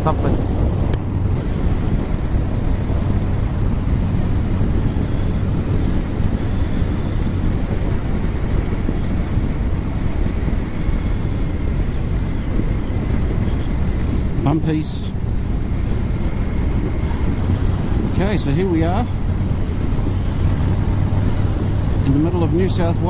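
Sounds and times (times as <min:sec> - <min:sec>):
wind rushing over helmet: 0:00.0 - 0:23.0.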